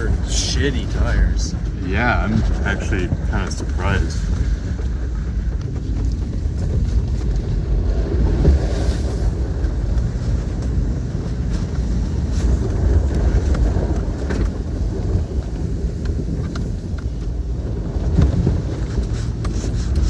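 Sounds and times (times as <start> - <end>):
engine and tyres rumbling: 0.0 - 20.0
wind buffeting microphone: 0.0 - 20.0.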